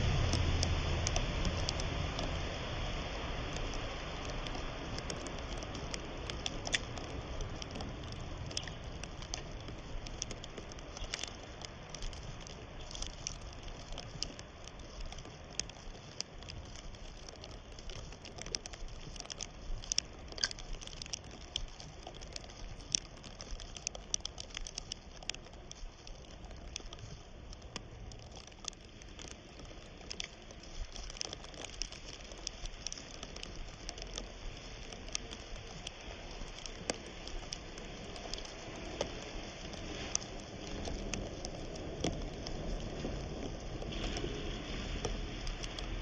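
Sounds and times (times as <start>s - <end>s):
shallow river water trickling: 0.0s - 46.0s.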